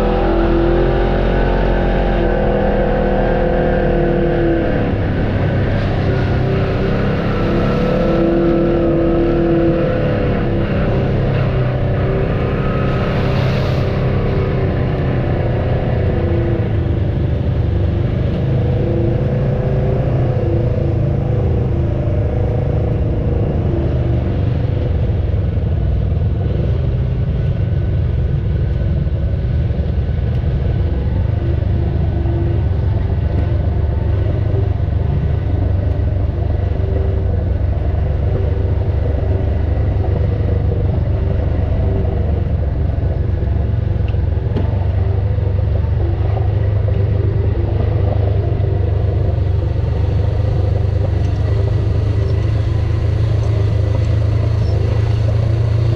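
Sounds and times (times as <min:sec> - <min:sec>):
vehicle engine running at low revs: 0:00.0 - 0:55.9.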